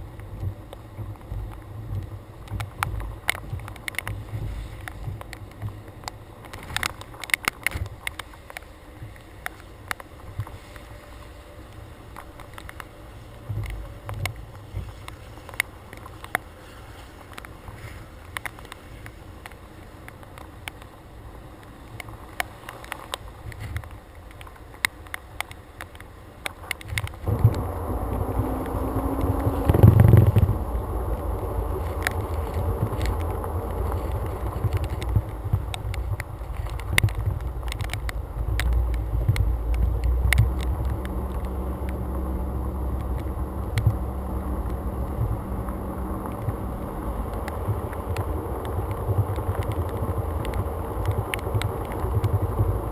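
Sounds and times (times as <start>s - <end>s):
low rumble: 0.0s - 24.6s, 26.7s - 52.9s
raindrops ticking on camera: 0.0s - 52.9s.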